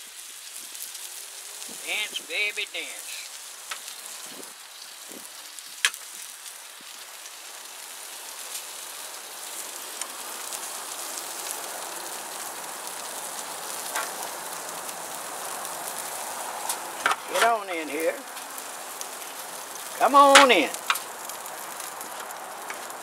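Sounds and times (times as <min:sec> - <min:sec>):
sausages sizzling on grill: 0:00.0 - 0:23.0.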